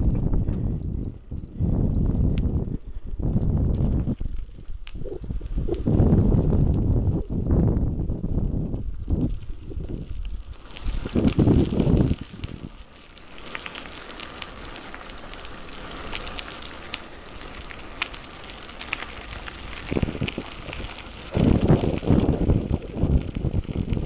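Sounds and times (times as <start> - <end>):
steady crackling hiss: 0.0 - 24.0
wind rumbling on microphone: 0.0 - 24.0.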